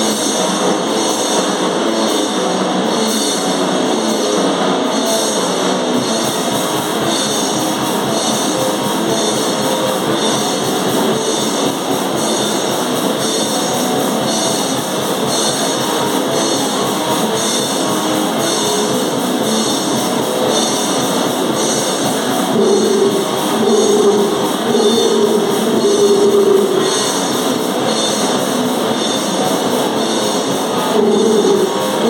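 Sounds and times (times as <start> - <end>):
crashing cymbals: 0.0 - 32.0
distorted guitars: 0.0 - 32.0
drum kit: 0.0 - 32.0.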